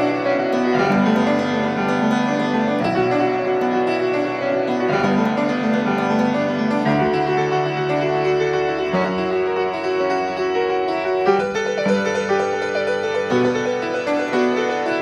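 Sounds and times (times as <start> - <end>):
slow classical piano piece: 0.0 - 15.0.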